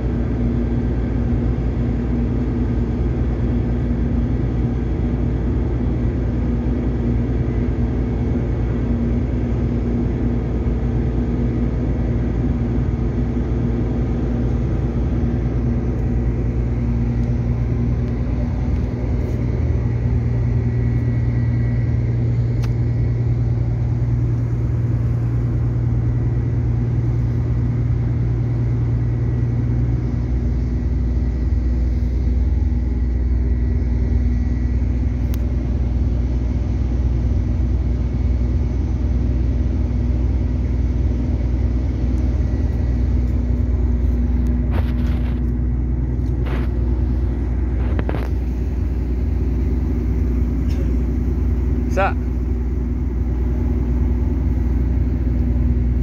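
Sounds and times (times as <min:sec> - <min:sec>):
ship diesel engines rumbling: 0:00.0 - 0:56.0.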